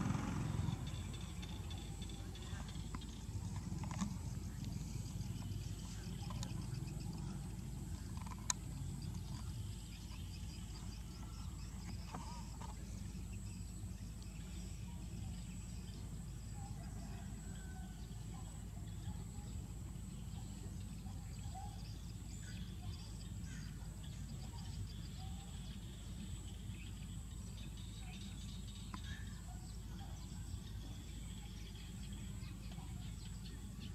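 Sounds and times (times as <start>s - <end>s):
faint bird chirps: 0.4s - 33.9s.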